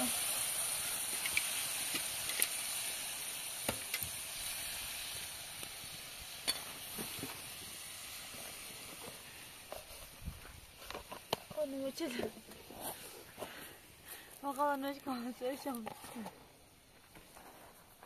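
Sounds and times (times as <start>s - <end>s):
tomatoes sizzling in oil: 0.0s - 17.1s.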